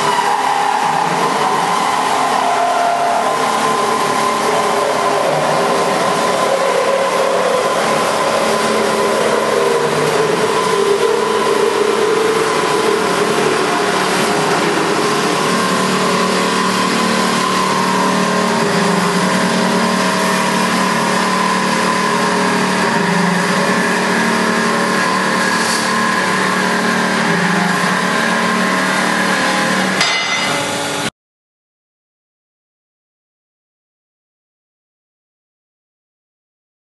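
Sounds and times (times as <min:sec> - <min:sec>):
bandsaw humming: 0:00.0 - 0:31.1.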